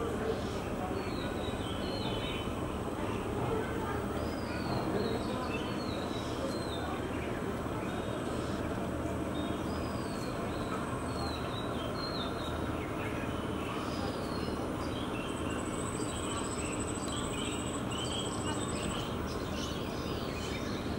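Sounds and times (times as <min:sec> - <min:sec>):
birds chirping: 0:00.3 - 0:20.9.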